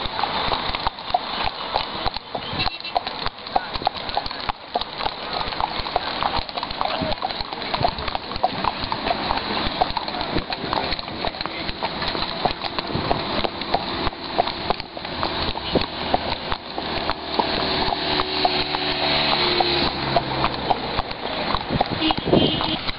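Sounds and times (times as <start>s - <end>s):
horse hooves on asphalt: 0.0s - 22.9s.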